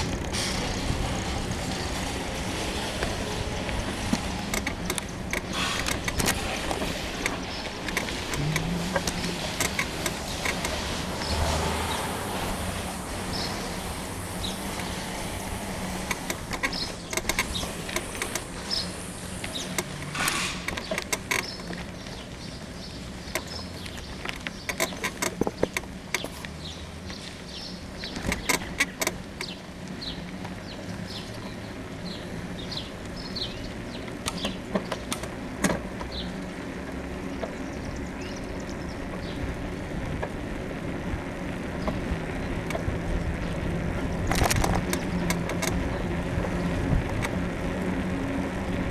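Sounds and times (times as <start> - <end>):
bicycle suspension squeaks and clicks: 0.0 - 48.9
road and wind noise: 0.0 - 48.9.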